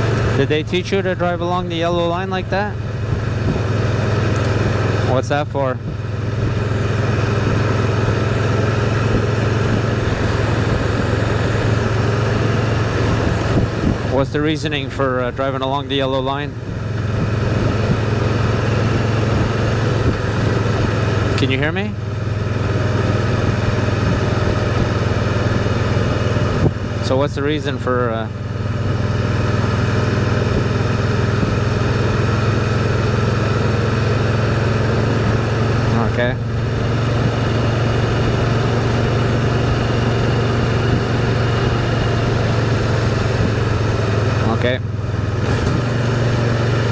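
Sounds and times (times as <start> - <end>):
motorcycle engine cruising: 0.0 - 46.9
road and wind noise: 0.0 - 46.9.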